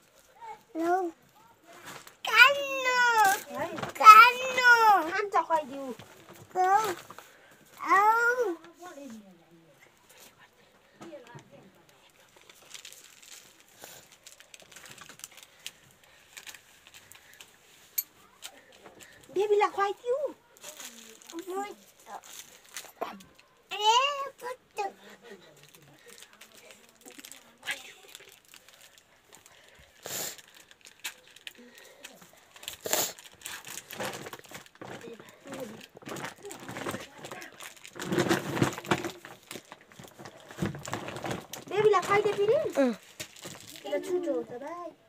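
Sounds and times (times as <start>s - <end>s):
plastic wrapper crinkling: 0.0s - 9.2s, 11.2s - 44.8s.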